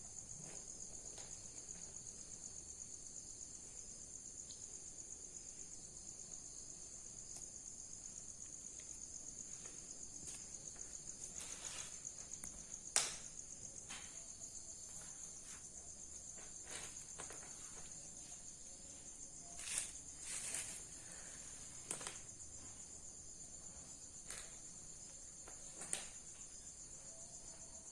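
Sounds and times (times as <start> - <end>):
insects chirring: 0.0 - 27.9.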